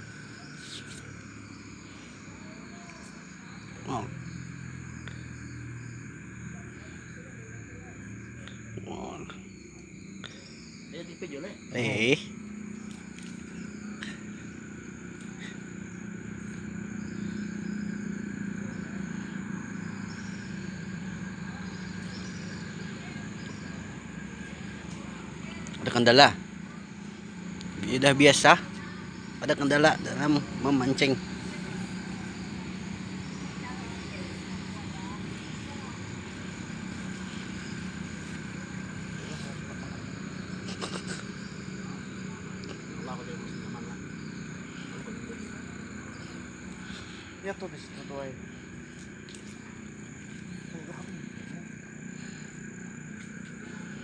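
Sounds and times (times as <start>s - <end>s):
low engine hum: 0.0s - 54.0s.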